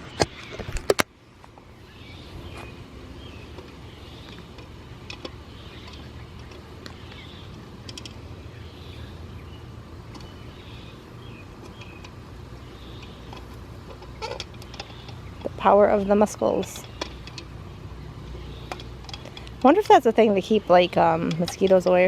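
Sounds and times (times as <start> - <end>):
birds chirping faintly: 0.0 - 22.0
low steady rumble: 0.0 - 22.0.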